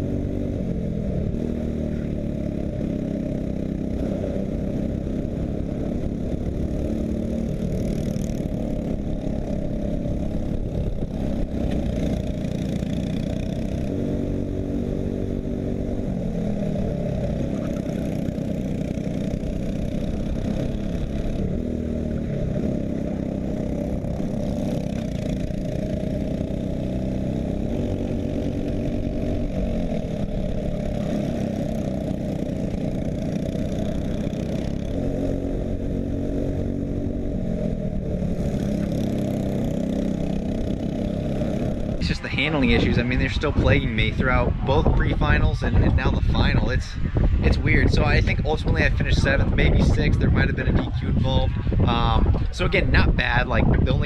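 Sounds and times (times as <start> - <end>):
racing kart engine revving: 0.0 - 54.0.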